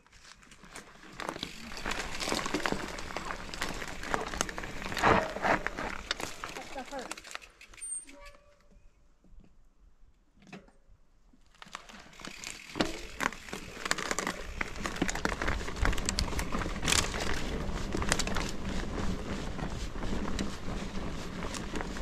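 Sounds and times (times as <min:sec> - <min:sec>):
bike tyres crackling on dirt: 0:00.0 - 0:08.5, 0:11.4 - 0:22.0.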